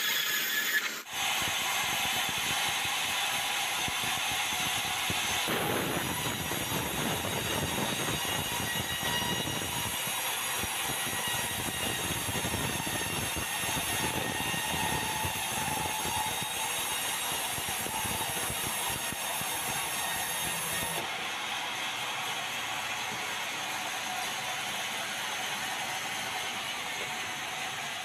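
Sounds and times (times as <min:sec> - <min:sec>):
band saw cutting log: 0:00.0 - 0:28.0.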